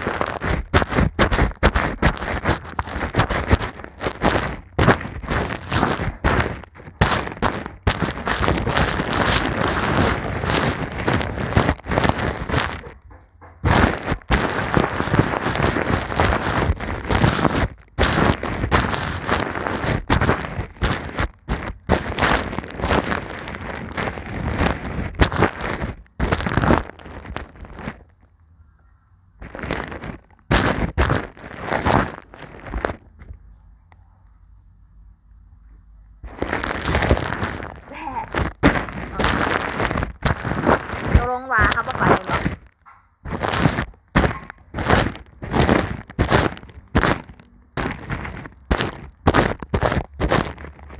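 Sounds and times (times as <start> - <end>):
brush scratching microphone cover: 0.0 - 28.0, 29.4 - 33.0, 36.3 - 50.9.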